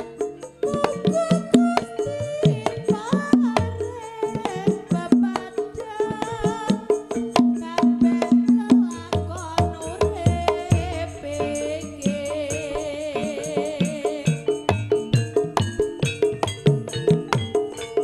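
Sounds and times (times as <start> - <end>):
drums in quick rhythm: 0.0 - 18.0
pitched percussion melody: 0.0 - 18.0.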